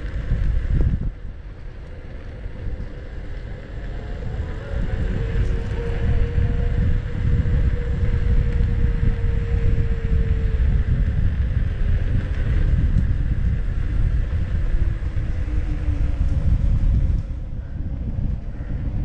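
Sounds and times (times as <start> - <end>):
electric motor whine: 0.0 - 19.0
wind buffeting the microphone: 0.0 - 19.0.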